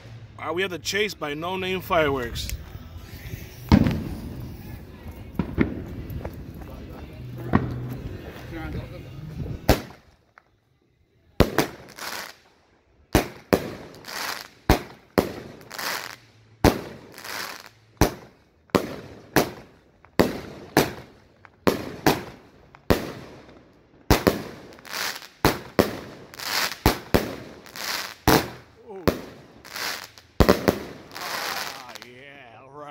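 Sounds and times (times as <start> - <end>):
firework bangs with crackling: 3.1 - 10.2, 11.4 - 12.5, 13.1 - 32.2.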